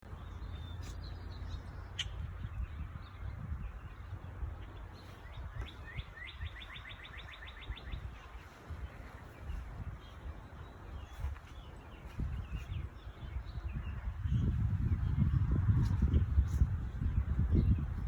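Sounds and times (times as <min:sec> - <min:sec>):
steady low rumble: 0:00.0 - 0:18.0
small bird chirping: 0:00.1 - 0:18.0.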